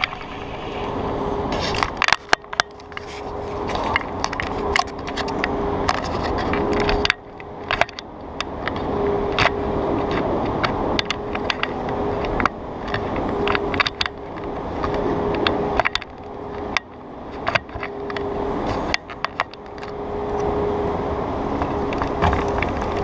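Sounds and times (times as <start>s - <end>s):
bicycle rattling over rough asphalt: 0.0s - 23.0s
wind rushing over microphone: 0.0s - 23.0s.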